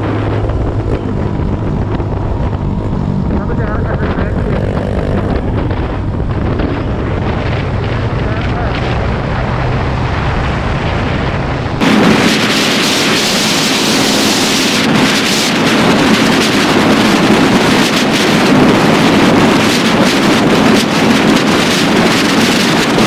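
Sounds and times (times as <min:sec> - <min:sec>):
scooter engine and road rumble: 0:00.0 - 0:23.0
wind rushing over microphone: 0:00.0 - 0:23.0.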